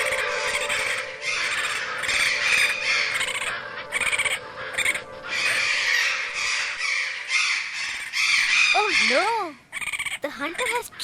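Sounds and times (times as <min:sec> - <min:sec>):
birds squawking and cawing: 0:00.0 - 0:11.0.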